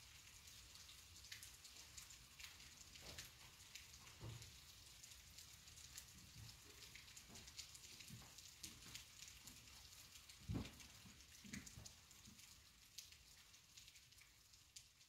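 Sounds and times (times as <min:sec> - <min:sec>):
faint steady rain: 0:00.0 - 0:15.0.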